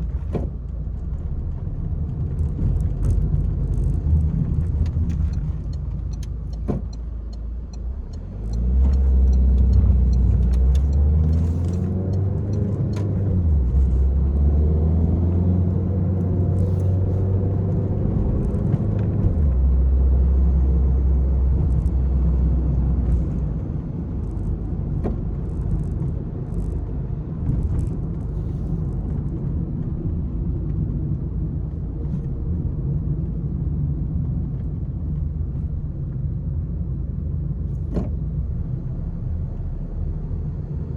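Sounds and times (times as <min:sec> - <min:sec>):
car engine accelerating hard: 0:01.2 - 0:36.4.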